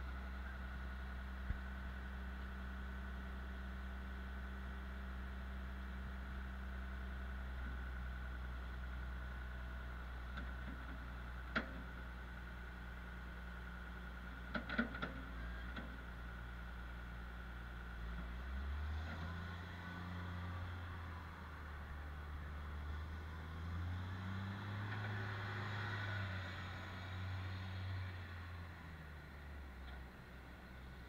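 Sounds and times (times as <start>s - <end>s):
diesel machinery droning: 0.0s - 31.0s.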